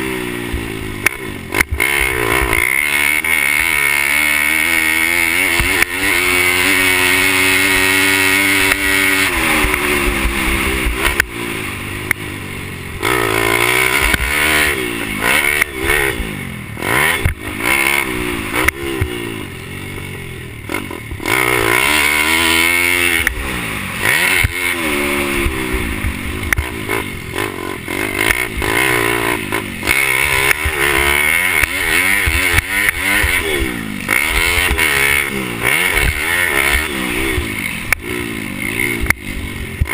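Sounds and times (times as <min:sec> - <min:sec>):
small motorbike engine racing: 0:00.0 - 0:39.9
clatter: 0:00.5 - 0:11.4, 0:13.0 - 0:39.9.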